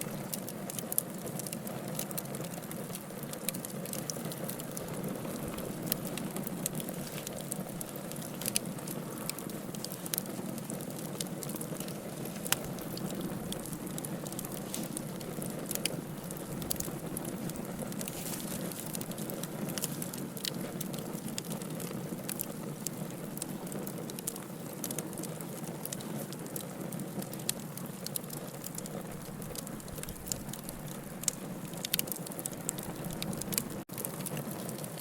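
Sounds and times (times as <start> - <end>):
fire crackling and popping: 0.0 - 35.0
fire flames rushing: 0.0 - 35.0.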